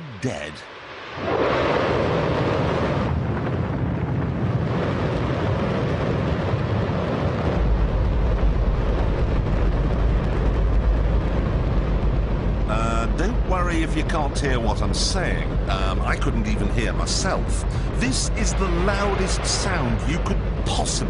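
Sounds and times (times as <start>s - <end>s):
rocket engine rumbling: 1.0s - 21.0s.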